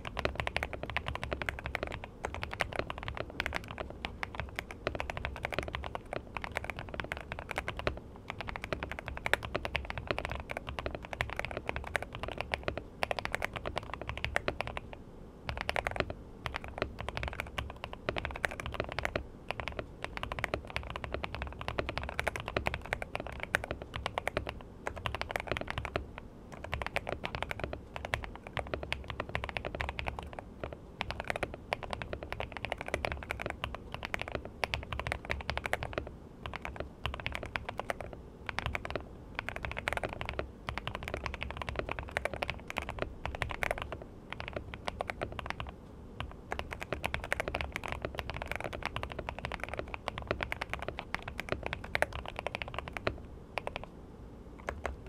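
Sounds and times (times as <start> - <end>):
mechanical keyboard typing: 0.0 - 53.9, 54.6 - 55.0.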